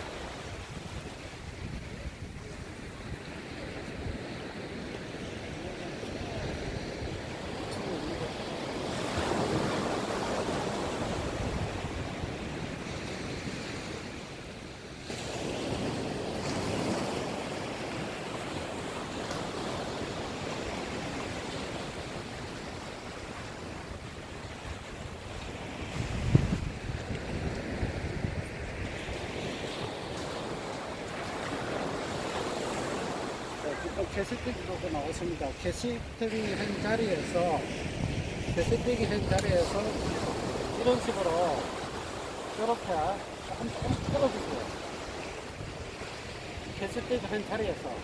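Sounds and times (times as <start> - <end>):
small surf washing up a beach: 0.0 - 48.0.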